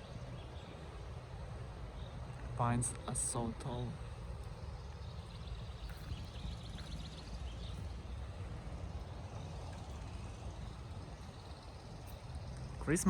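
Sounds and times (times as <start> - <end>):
songbirds singing: 0.0 - 13.0
steady low rumble: 0.0 - 13.0.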